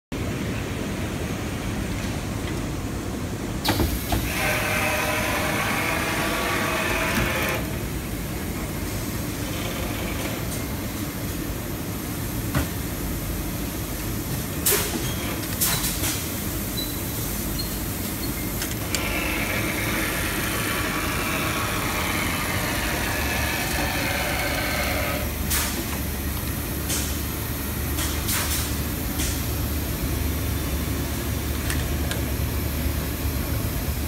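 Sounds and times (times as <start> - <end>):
machine and conveyor rumbling: 0.2 - 34.0.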